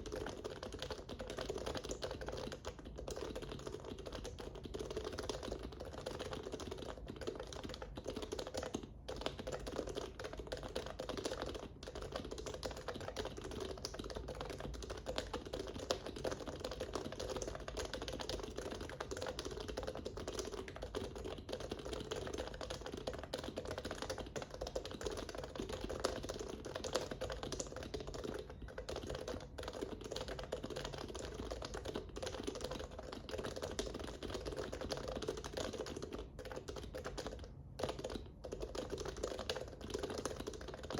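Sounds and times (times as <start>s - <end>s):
fast keyboard typing: 0.0s - 40.9s.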